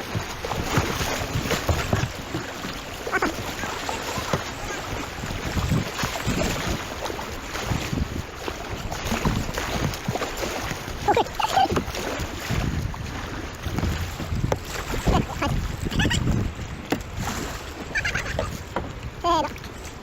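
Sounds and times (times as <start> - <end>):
river water flowing: 0.0 - 20.0
wind buffeting microphone: 0.0 - 20.0.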